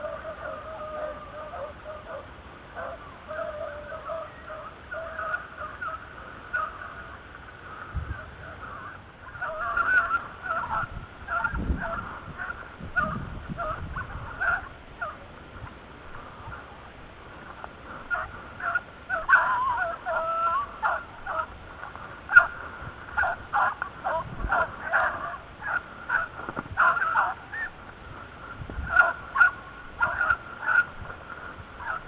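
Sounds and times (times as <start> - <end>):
beagles baying and yelping: 0.0 - 16.8, 18.0 - 27.8, 28.8 - 31.0, 31.8 - 32.0.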